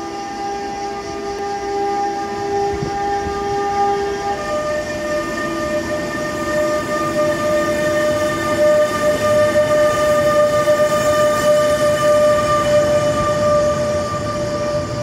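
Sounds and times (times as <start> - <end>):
freight train rumbling past: 0.0 - 15.0
steady high-pitched tone: 0.0 - 15.0.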